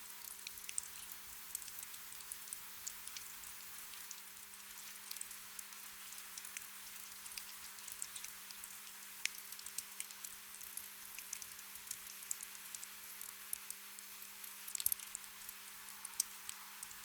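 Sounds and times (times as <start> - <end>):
soft rain hiss: 0.0 - 17.0
raindrop ticks: 0.2 - 17.0.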